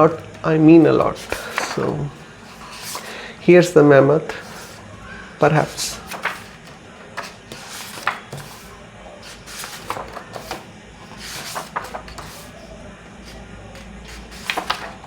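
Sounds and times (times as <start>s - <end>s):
book pages turning: 0.0s - 15.0s.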